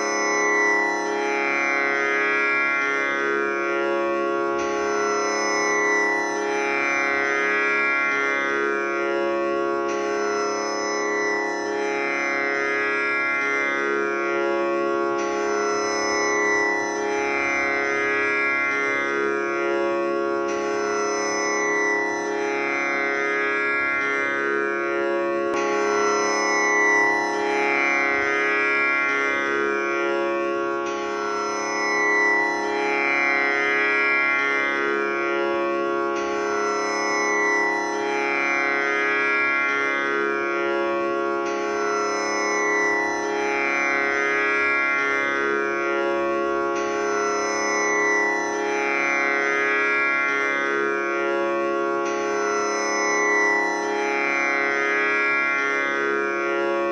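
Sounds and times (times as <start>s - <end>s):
tanpura drone: 0.0s - 56.9s.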